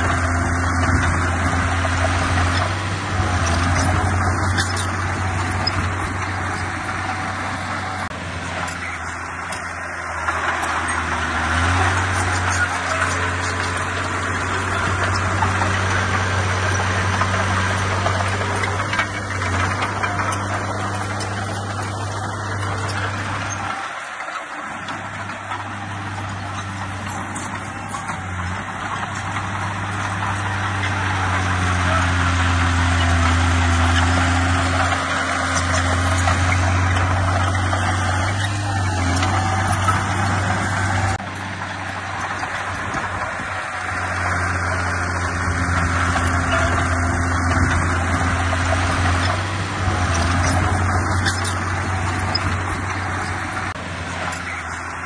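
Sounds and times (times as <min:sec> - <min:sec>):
diesel engines running under load: 0:00.0 - 0:55.0.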